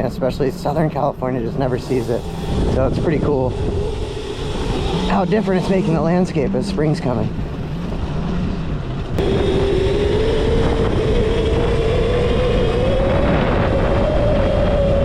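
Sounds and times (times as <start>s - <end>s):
steady low rumble: 0.0s - 15.0s
electric motor whine: 1.8s - 6.6s, 7.3s - 15.0s.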